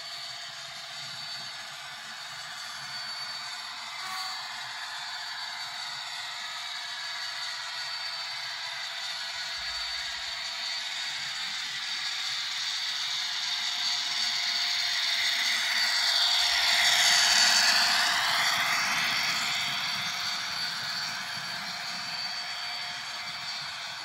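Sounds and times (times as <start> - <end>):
model train diesel engine sound: 0.0 - 24.0.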